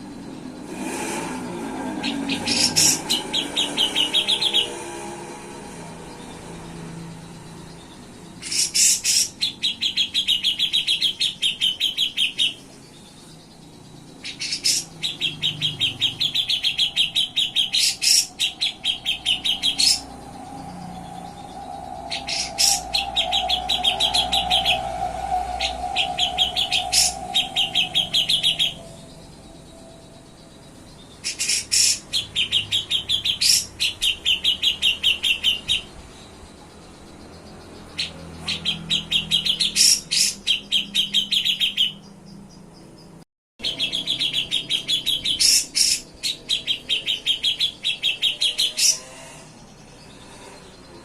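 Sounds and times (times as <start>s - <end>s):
bird singing rapid trills: 0.0s - 51.0s.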